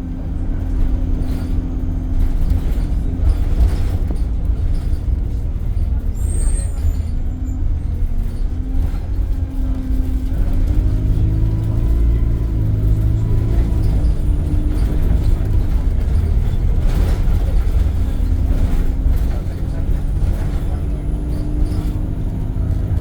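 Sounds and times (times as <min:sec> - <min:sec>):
bus engine rumbling: 0:00.0 - 0:23.0.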